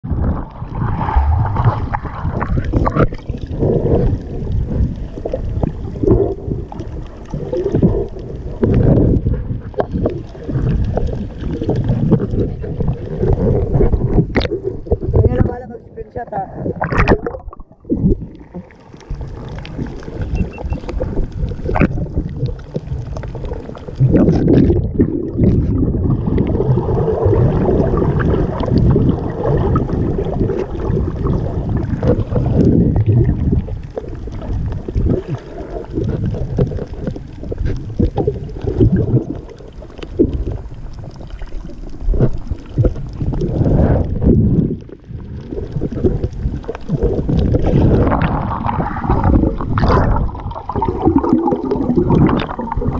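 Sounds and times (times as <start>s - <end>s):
water rushing and gurgling underwater: 0.0s - 52.9s.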